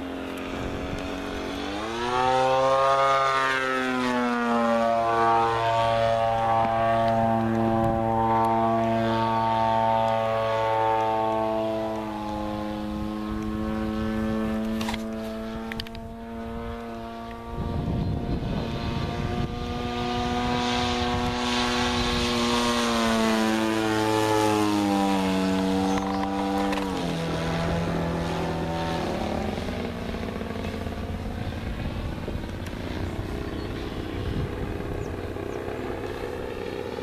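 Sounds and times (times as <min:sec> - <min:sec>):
model airplane engine buzzing: 0:00.0 - 0:37.0.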